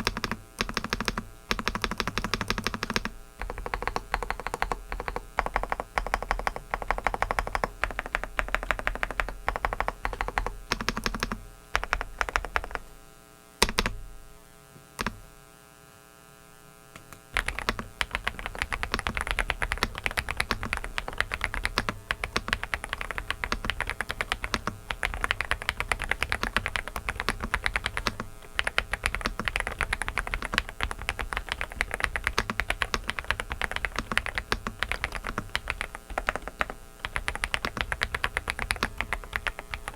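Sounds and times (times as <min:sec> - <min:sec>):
mechanical keyboard typing: 0:00.0 - 0:12.9, 0:13.6 - 0:14.0, 0:17.4 - 0:39.9.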